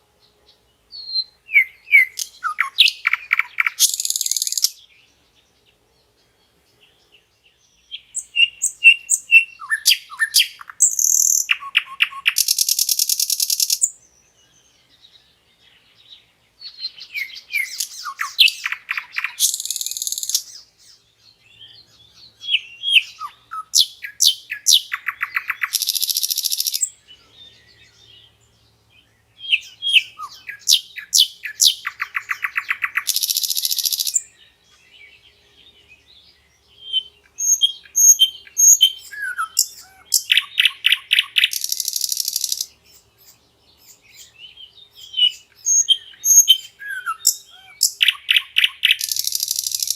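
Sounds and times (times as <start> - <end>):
nightingale singing: 0.0 - 49.9.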